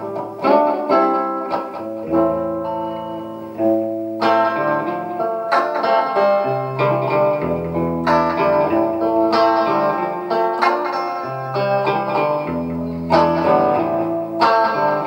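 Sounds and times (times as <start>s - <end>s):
clean electric guitar chords: 0.0s - 15.0s.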